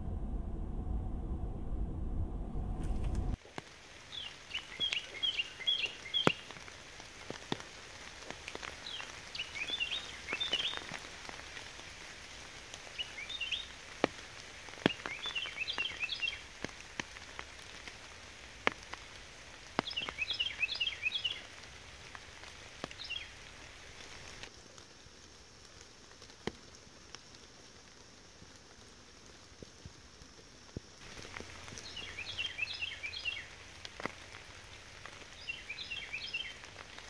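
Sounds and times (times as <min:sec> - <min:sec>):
steady rain: 0:02.8 - 0:37.0
raindrops tapping on leaves: 0:03.0 - 0:37.0.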